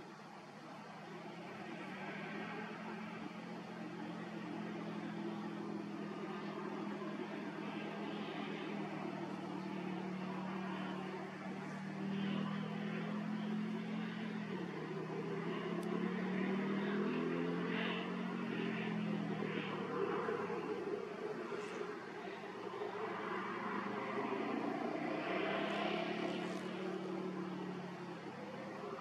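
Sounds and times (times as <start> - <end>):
distant motor drone: 0.0 - 29.0.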